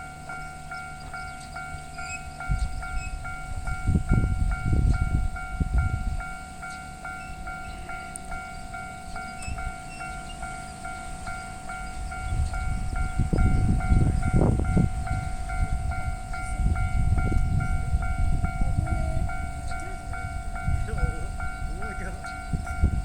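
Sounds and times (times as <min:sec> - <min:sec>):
level crossing alarm bell: 0:00.0 - 0:23.0
train rumbling past: 0:00.0 - 0:23.0.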